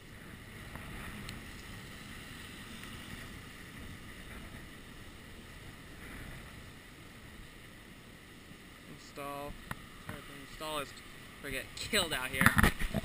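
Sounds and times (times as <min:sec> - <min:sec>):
muffled wind rumble: 0:00.0 - 0:13.0.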